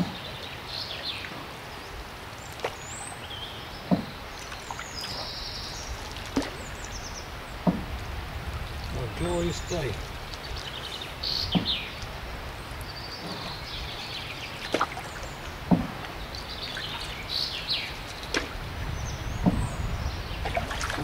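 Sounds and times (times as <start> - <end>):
birds chirping: 0.0 - 21.0
paddle strokes in water: 0.0 - 21.0
water dripping: 2.3 - 21.0.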